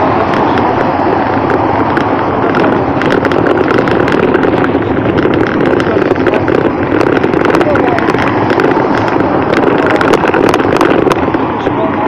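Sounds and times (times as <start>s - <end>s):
wind roaring over microphone: 0.0s - 12.0s.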